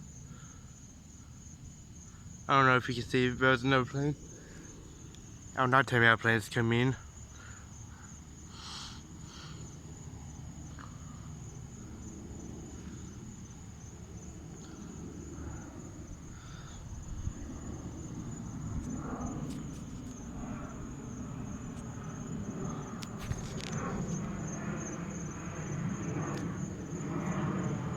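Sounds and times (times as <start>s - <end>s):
airplane rumbling: 0.0s - 27.9s
crickets trilling: 0.0s - 27.9s.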